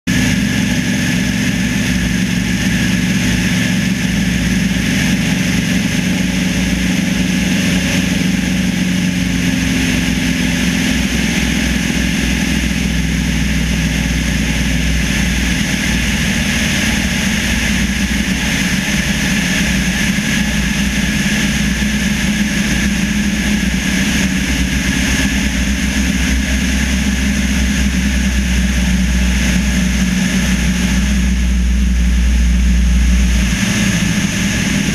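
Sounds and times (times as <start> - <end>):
airflow rushing past microphone: 0.1 - 34.9
light aircraft engine droning: 0.1 - 34.9.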